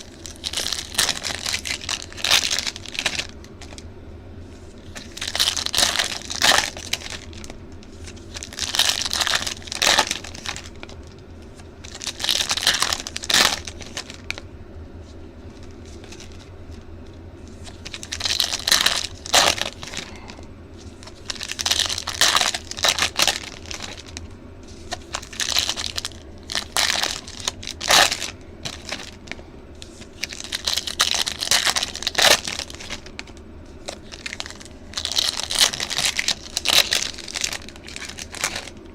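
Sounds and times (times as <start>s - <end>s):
foil wrappers tearing and crinkling: 0.0s - 3.8s, 4.7s - 14.4s, 15.5s - 16.8s, 17.6s - 38.9s
faint steady hum: 0.0s - 38.9s.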